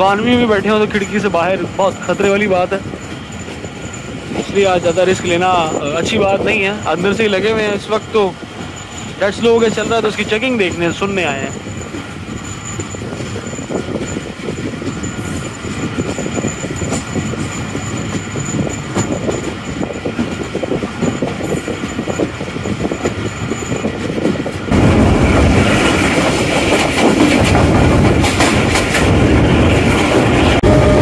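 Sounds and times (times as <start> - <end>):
clatter over rail joints: 0.0 - 30.7
train wheels rumbling on track: 0.0 - 31.0.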